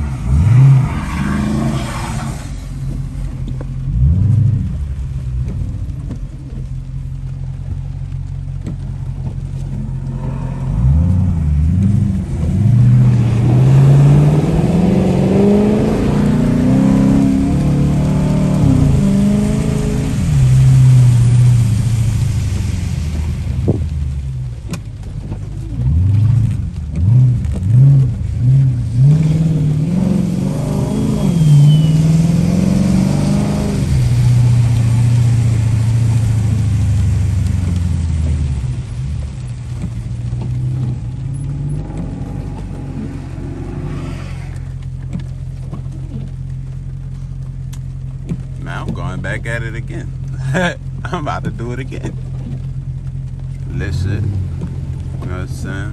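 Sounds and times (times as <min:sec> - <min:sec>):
car engine idling: 0:00.0 - 0:55.9
car engine revving: 0:00.0 - 0:55.9.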